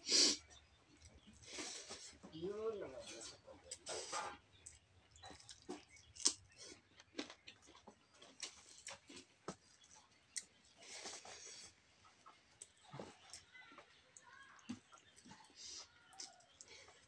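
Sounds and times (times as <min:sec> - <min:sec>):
chewing and mouth noises: 0:03.0 - 0:17.0.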